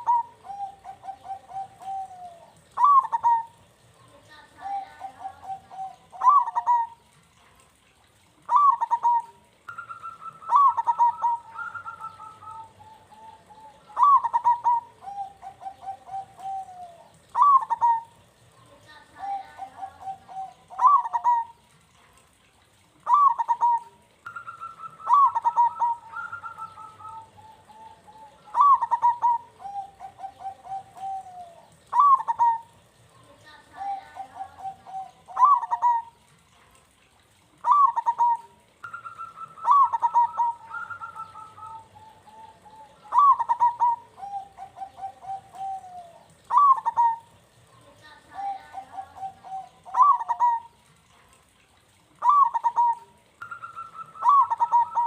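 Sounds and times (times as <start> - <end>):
dove cooing: 0.0 - 7.4, 8.3 - 36.3, 37.5 - 51.1, 52.2 - 55.0.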